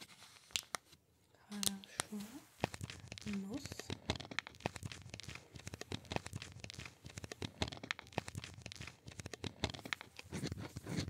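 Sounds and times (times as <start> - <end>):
gloved hands rubbing crinkly: 1.5 - 11.0.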